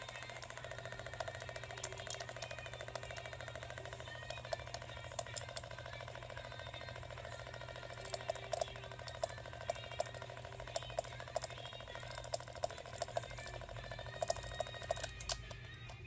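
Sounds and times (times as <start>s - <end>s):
irregular plastic clicks: 0.0s - 16.0s
spinner toy rattling: 0.0s - 16.0s.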